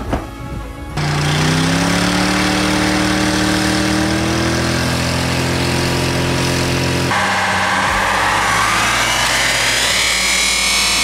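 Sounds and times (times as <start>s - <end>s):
engine at high revs: 1.0s - 11.0s
wheels spinning in a burnout: 1.0s - 11.0s.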